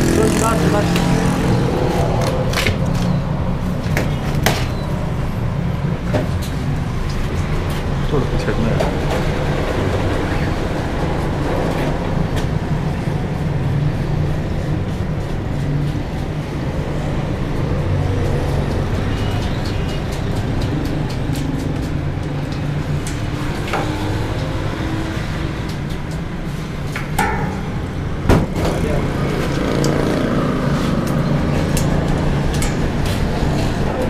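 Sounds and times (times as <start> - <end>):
vehicle engines rumbling: 0.0 - 34.0.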